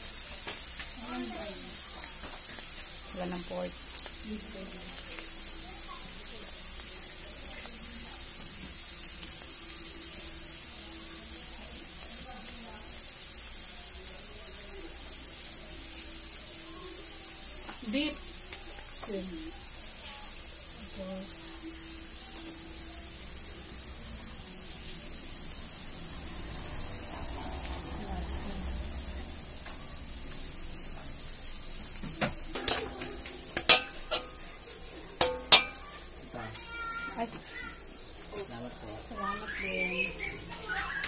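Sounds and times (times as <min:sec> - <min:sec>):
meat sizzling in oil: 0:00.0 - 0:41.0.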